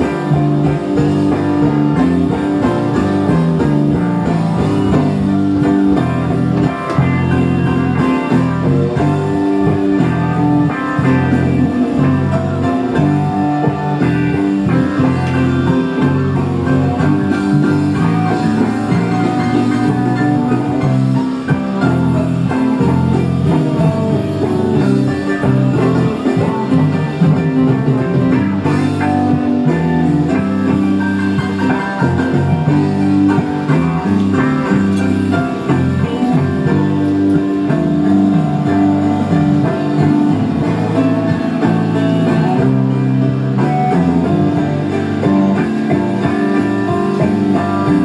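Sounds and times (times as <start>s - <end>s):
blues-rock music: 0.0s - 48.0s.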